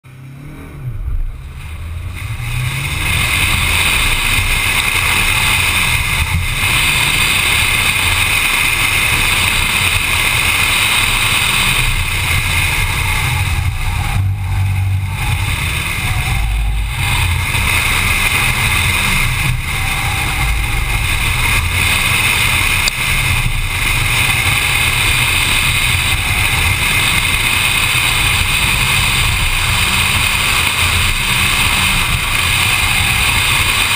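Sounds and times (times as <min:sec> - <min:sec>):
car engine pulling hard: 0:00.0 - 0:33.9
road and wind noise: 0:00.0 - 0:33.9.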